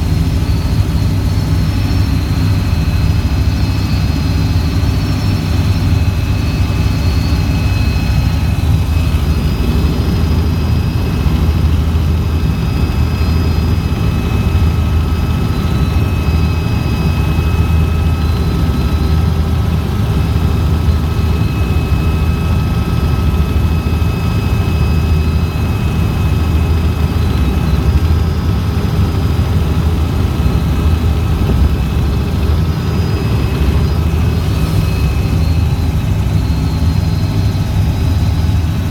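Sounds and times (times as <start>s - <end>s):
helicopter rotor rumble: 0.0s - 38.9s
turbine whine: 0.0s - 38.9s.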